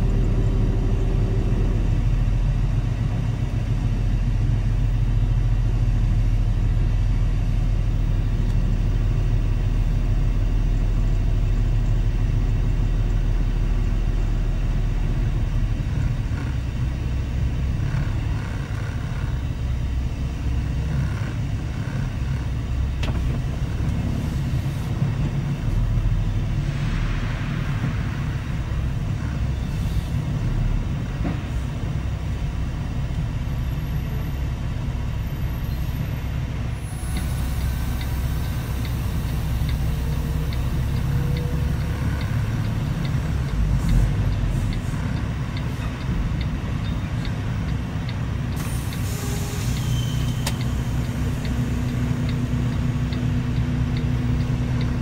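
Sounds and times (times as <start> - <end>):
diesel truck engine rumbling: 0.0 - 55.0.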